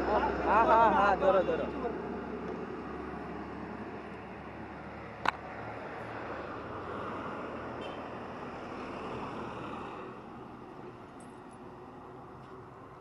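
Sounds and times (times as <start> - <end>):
roadside outdoor noise: 0.0 - 13.0.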